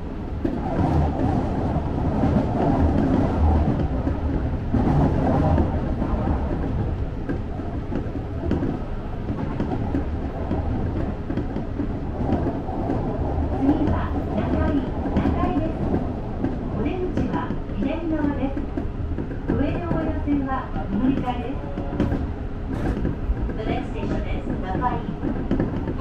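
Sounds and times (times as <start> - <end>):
train motor hum: 0.0 - 26.0
train wheels rumbling on rails: 0.0 - 26.0.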